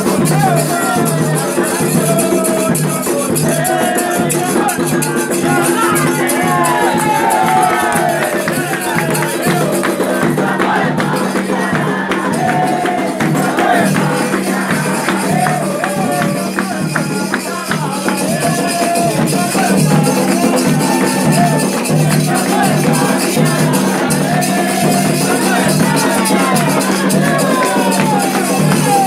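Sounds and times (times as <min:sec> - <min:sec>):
drums beating: 0:00.0 - 0:29.0
voices singing: 0:00.0 - 0:29.0.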